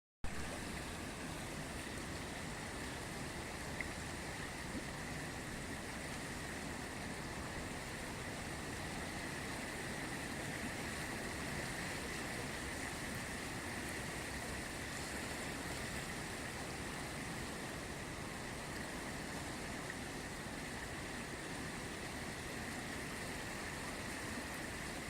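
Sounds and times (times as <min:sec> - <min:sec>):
river water rushing: 0:00.2 - 0:25.0.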